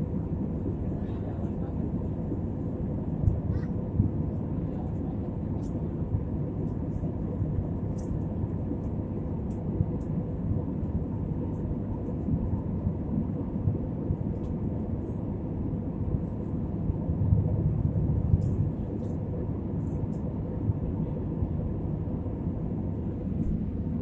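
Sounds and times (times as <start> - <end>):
airliner cabin rumble: 0.0 - 24.0
faint steady hum: 0.0 - 24.0.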